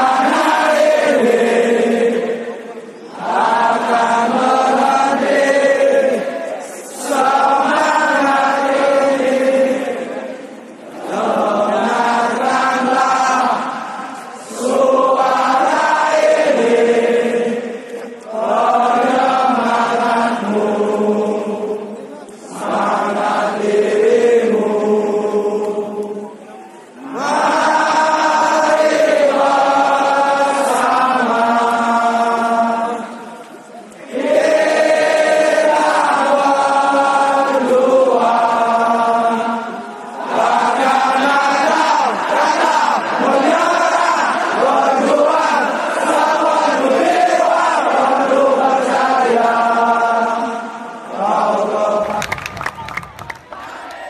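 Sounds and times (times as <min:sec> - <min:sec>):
stadium crowd singing: 0:00.0 - 0:54.0.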